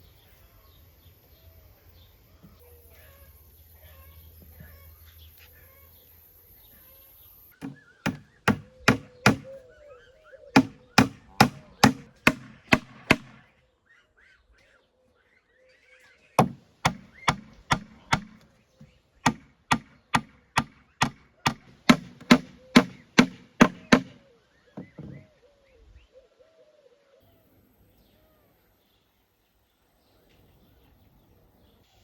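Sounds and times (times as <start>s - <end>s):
faint birdsong: 0.0s - 32.0s.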